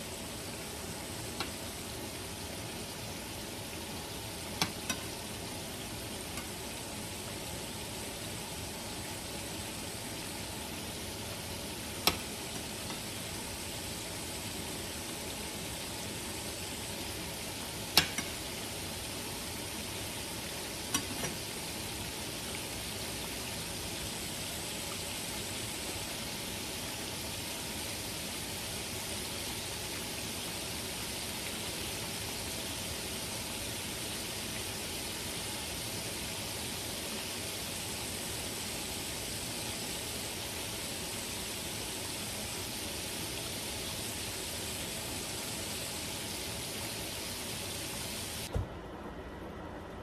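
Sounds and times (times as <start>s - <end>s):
steady hiss: 0.0s - 48.6s.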